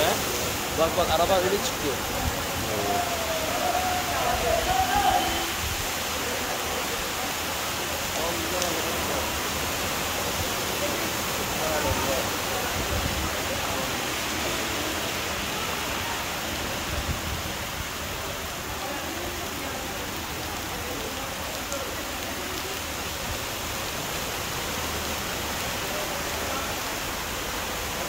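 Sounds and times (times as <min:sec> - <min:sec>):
floodwater rushing through street: 0:00.0 - 0:28.0.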